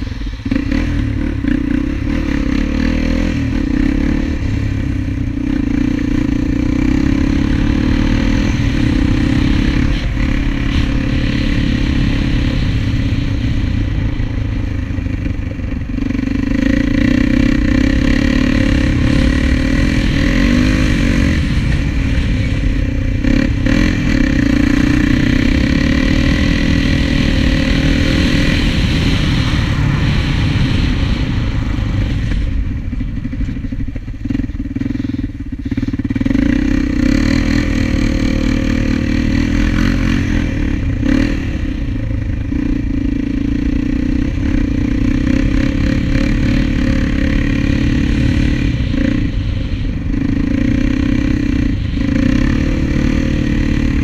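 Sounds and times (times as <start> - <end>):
quad engine under throttle: 0.0 - 54.0.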